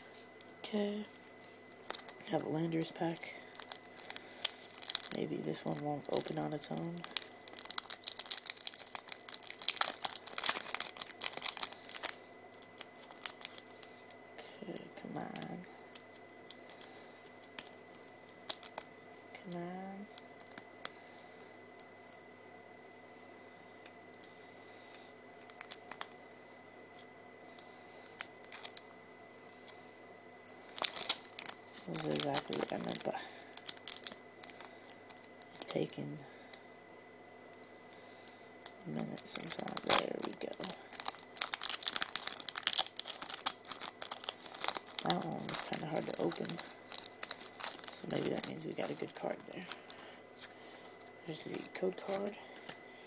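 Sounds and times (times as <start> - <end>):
foil wrapper crinkling: 1.2 - 21.0, 25.4 - 28.9, 29.5 - 36.6, 37.5 - 53.0.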